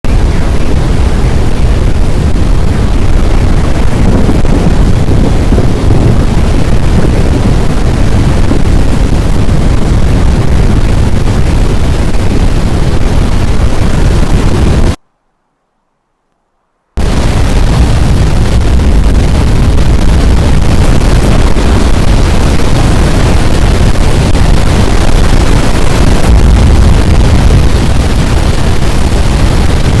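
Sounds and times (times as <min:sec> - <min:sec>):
strong wind buffeting microphone: 0:00.0 - 0:15.0, 0:17.0 - 0:30.0.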